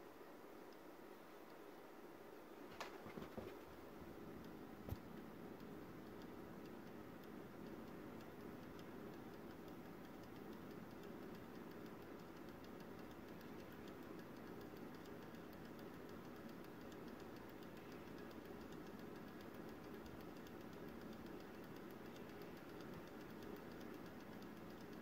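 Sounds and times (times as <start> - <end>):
steady low hum: 0.0 - 25.0
solenoid ticking: 4.0 - 25.0.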